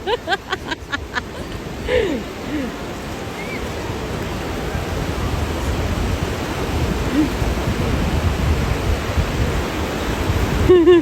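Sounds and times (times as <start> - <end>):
sea surf washing onto beach: 0.0 - 11.0.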